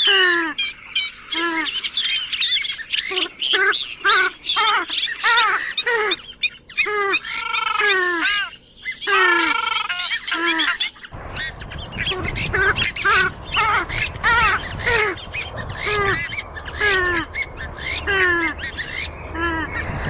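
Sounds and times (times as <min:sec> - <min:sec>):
swamphen calling: 0:00.0 - 0:20.0.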